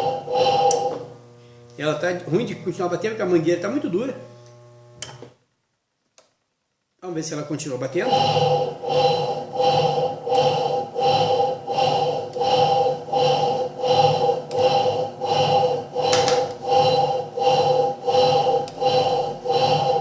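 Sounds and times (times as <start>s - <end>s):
washing machine motor humming in pulses: 0.0s - 5.2s, 8.0s - 20.0s.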